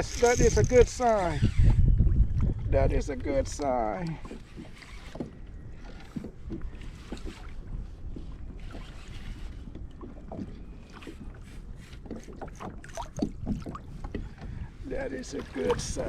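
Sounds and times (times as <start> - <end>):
wind rumble on microphone: 0.0 - 12.0, 12.6 - 16.0
water lapping against boat hull: 0.0 - 16.0.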